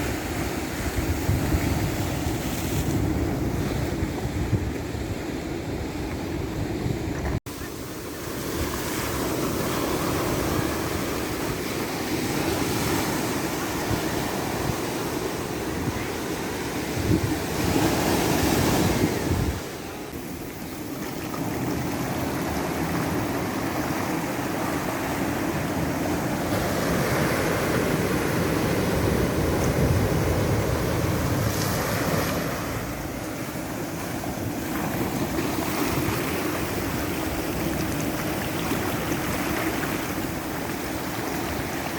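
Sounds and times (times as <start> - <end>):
ocean waves washing ashore: 0.0 - 41.9.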